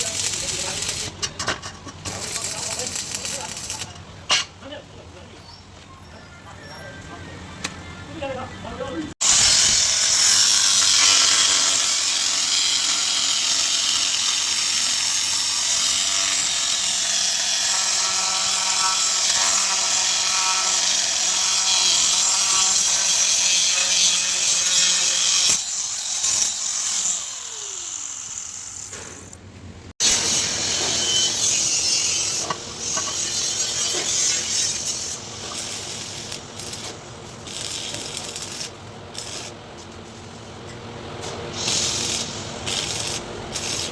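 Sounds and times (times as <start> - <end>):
angle grinder cutting metal: 0.0 - 1.1, 2.1 - 3.9, 9.2 - 29.2, 30.0 - 39.6, 41.2 - 43.9.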